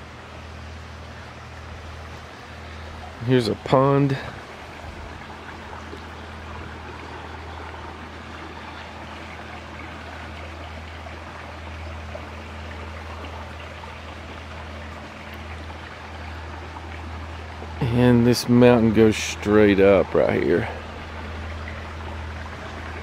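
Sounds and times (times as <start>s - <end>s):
creek water rushing: 0.0s - 23.0s
low steady hum: 0.0s - 23.0s.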